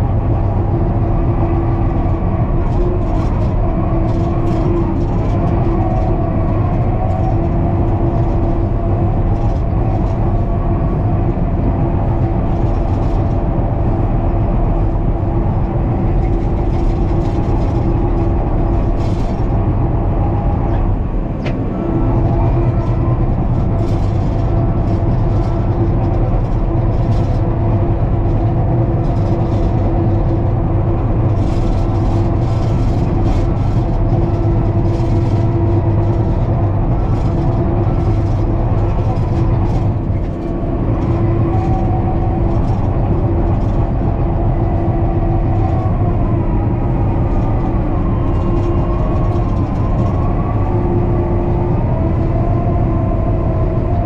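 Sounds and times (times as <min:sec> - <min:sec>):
diesel dozer engine running: 0:00.0 - 0:54.0.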